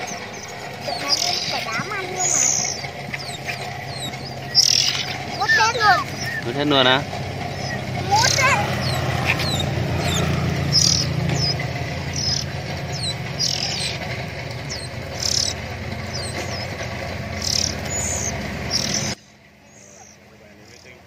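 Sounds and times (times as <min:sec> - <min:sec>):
birds hissy rasping begging calls: 0:00.0 - 0:21.0.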